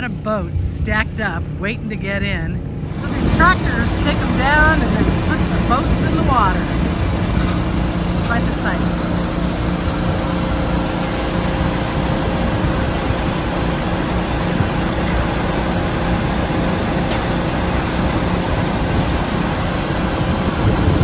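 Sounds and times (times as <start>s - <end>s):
diesel tractor engines running: 0.0s - 21.0s.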